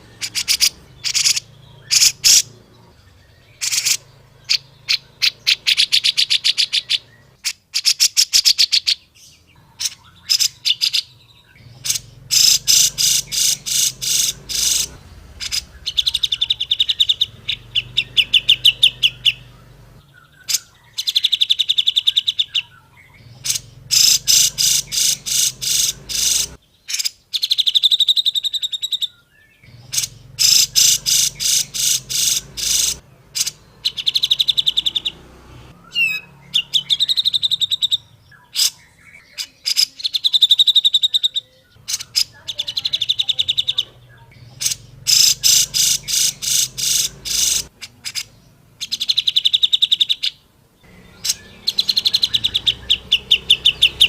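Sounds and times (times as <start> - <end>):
bird singing sharp trilling phrases: 0.0 - 54.0.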